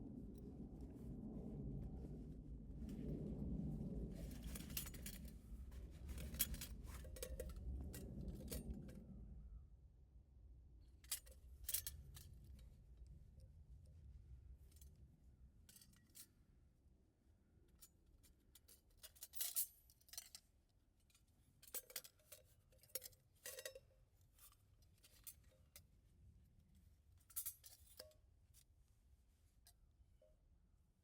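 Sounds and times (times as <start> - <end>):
faint low background: 0.0 - 31.0.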